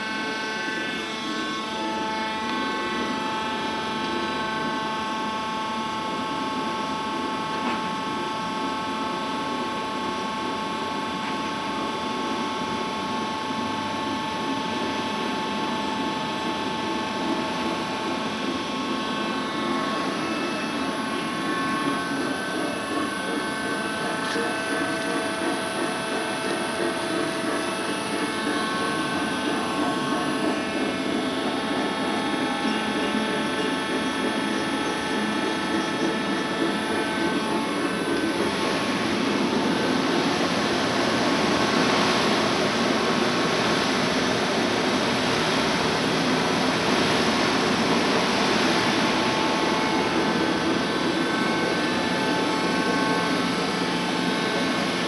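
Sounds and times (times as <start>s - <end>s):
centrifuge machine hum: 0.0s - 55.0s
high whine of steady tones: 0.0s - 55.0s.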